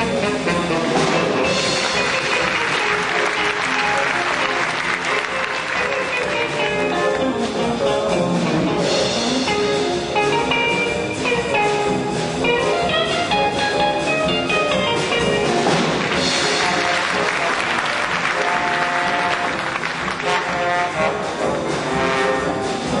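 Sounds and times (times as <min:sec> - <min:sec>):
jazz big band playing: 0:00.0 - 0:23.0.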